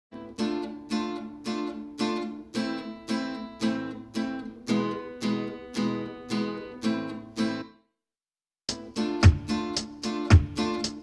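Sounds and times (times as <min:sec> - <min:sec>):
guitar strumming chords: 0:00.1 - 0:07.8, 0:08.7 - 0:11.0.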